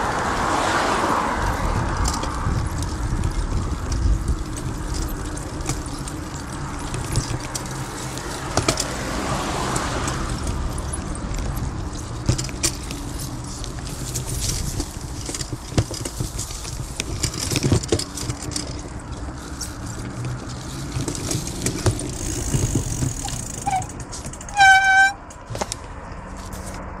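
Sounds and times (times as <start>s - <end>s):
bicycle riding over pavement: 0.0s - 27.0s.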